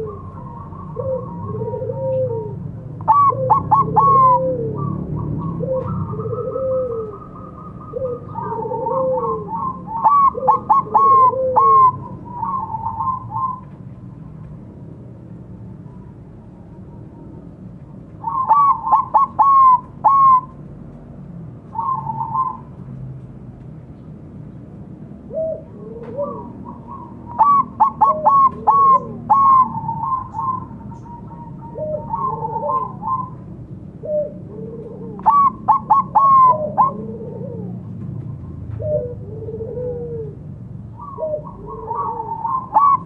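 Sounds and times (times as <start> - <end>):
dove cooing: 0.0 - 14.4, 18.2 - 20.6, 21.7 - 22.7, 25.2 - 43.0.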